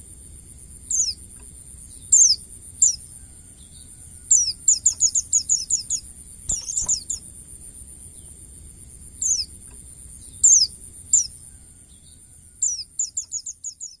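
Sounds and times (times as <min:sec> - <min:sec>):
bird chirping: 0:00.9 - 0:07.3, 0:09.2 - 0:14.0.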